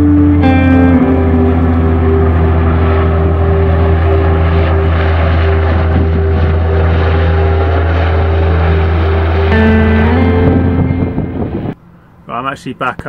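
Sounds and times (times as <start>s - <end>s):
helicopter flying overhead: 0.0s - 12.9s.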